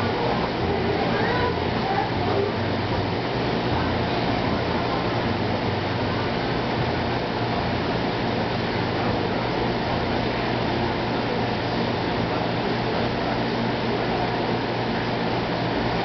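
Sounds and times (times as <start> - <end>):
aquarium pumps and rushing water: 0.0 - 16.0.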